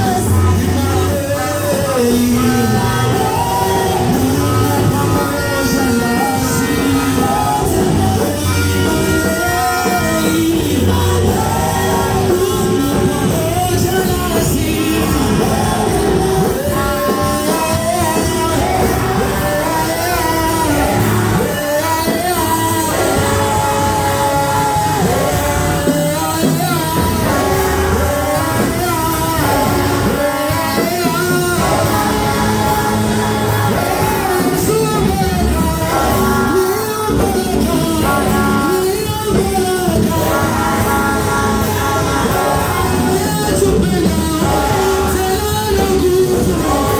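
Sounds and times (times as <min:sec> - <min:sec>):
amplified band with low beat: 0:00.0 - 0:46.9
voices singing: 0:00.0 - 0:46.9.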